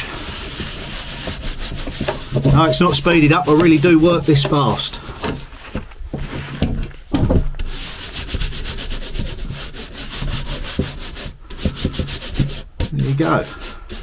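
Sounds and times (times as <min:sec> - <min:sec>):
brush scrubbing cast iron: 0:00.0 - 0:05.6, 0:07.6 - 0:14.0.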